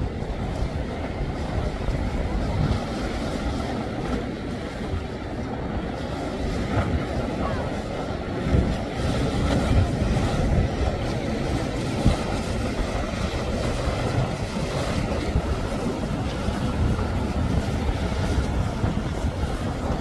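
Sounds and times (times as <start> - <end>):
hull splashing: 0.0 - 20.0
motorboat motor: 0.0 - 20.0
wind rumble on microphone: 0.0 - 20.0.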